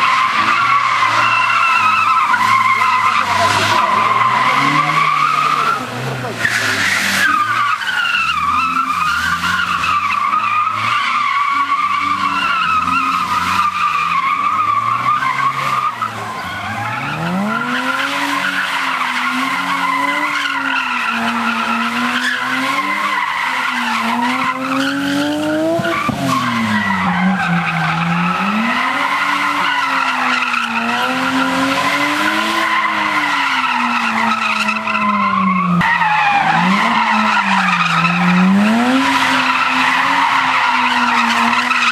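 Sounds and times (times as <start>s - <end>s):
car engine revving: 0.0s - 41.9s
tyres squealing: 0.0s - 41.9s.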